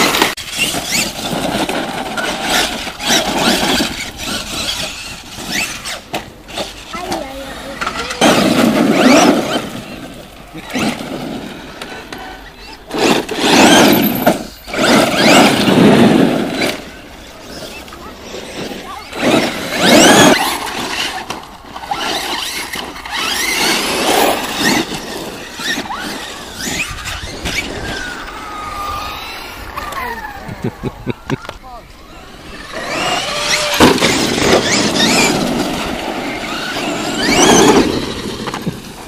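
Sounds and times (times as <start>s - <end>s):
rc truck motors whining: 0.0s - 39.0s.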